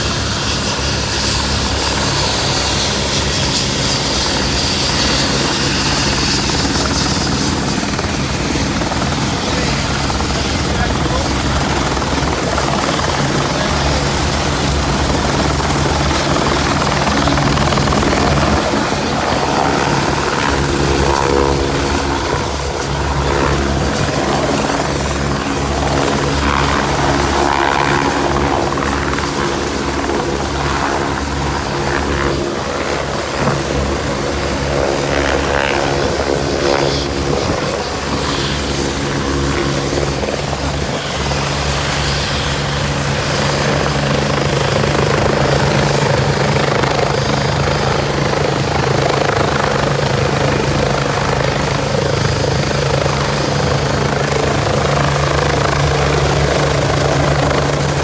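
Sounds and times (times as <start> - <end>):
helicopter rotor beat: 0.0 - 58.0.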